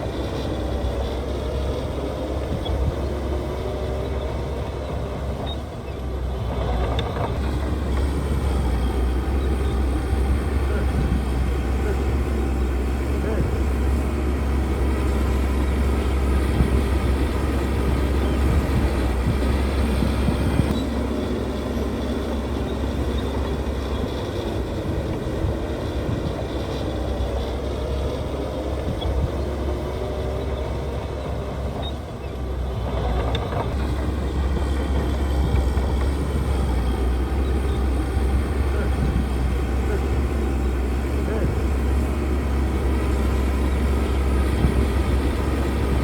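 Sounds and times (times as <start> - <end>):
diesel machinery rumbling: 0.0 - 46.0.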